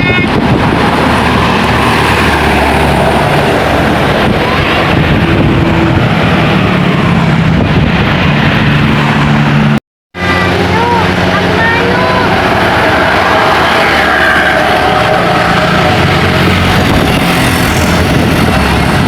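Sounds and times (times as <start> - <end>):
road and wind noise: 0.0 - 19.0
bus driving past: 0.3 - 19.0.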